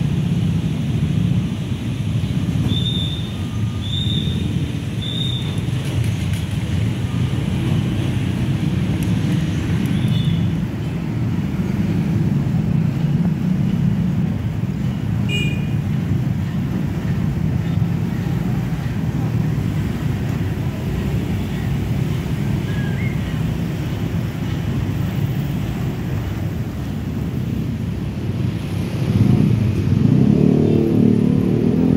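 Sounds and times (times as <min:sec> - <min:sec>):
motorbikes passing: 0:00.0 - 0:31.9.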